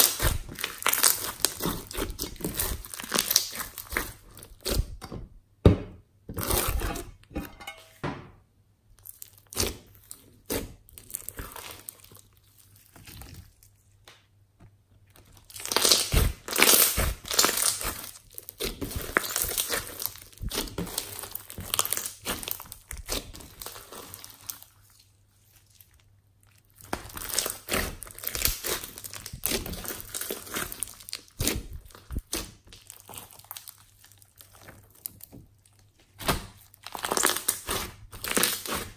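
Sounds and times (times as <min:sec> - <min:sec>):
slime crackling and crunching: 0:00.0 - 0:05.0, 0:08.9 - 0:14.1, 0:15.1 - 0:38.9.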